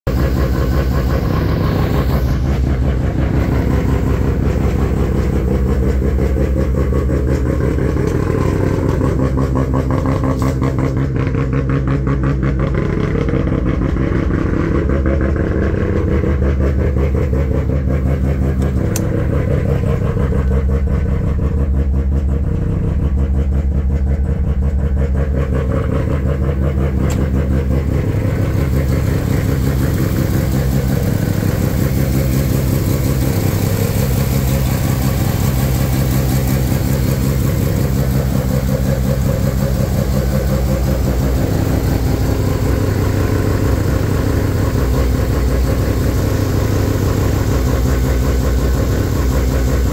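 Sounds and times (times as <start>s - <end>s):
rotary engine idling: 0.1s - 49.9s.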